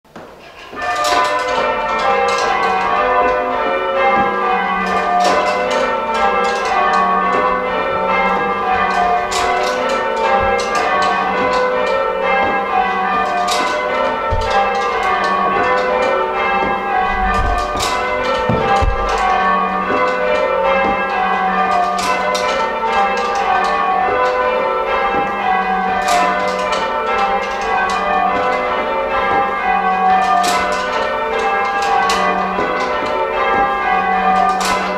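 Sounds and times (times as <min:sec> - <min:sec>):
church bells change ringing: 0:00.1 - 0:34.9.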